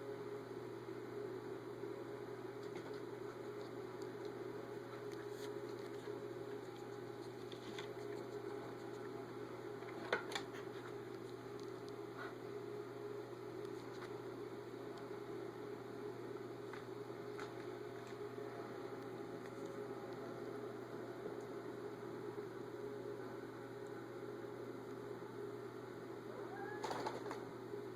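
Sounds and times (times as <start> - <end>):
background hum and hiss: 0.0 - 27.9.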